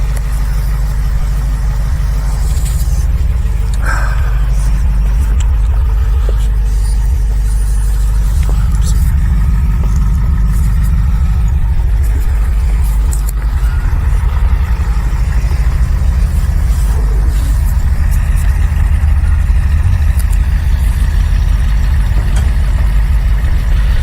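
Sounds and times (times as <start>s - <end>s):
blizzard wind: 0.0s - 24.0s
vehicle engine rumble: 0.0s - 24.0s.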